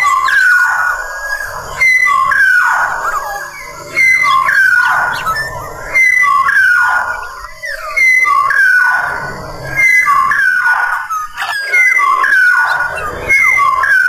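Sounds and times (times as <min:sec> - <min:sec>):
oriole fluty whistled song: 0:00.0 - 0:14.0.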